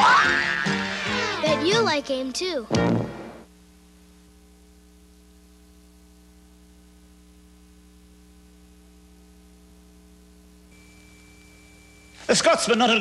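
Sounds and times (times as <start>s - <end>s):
electrical mains hum: 0.0s - 13.0s
faint tape hiss: 0.6s - 13.0s.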